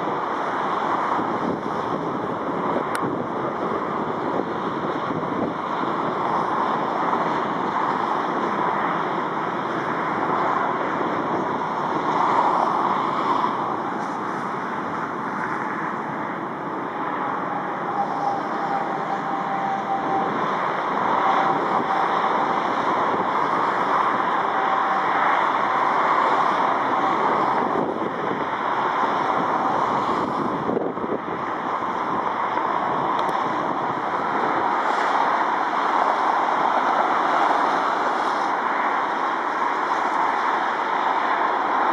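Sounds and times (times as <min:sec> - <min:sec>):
faint engine whine: 0:00.0 - 0:41.9
jet engine roar: 0:00.0 - 0:41.9
wind buffeting microphone: 0:00.0 - 0:41.9.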